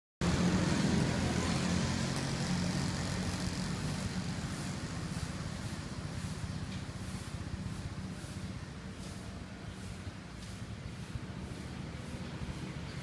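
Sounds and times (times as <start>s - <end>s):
car engine passing by: 0.2s - 13.0s
street traffic noise: 0.2s - 13.0s.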